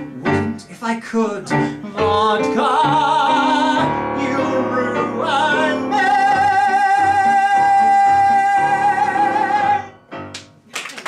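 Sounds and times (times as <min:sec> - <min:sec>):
man singing: 0:00.0 - 0:10.0
piano chords: 0:00.0 - 0:10.7.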